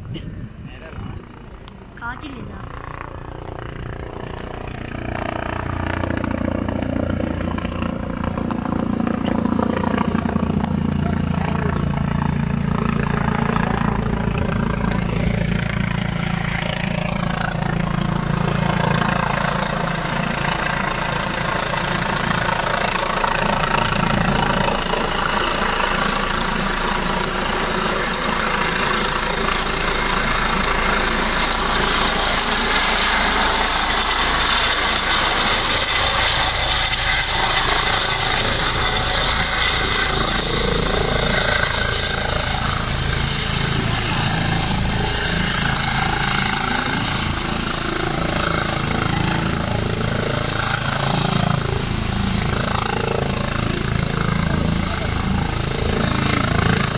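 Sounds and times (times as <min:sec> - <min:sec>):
helicopter rotor and engine: 0:00.0 - 0:56.9.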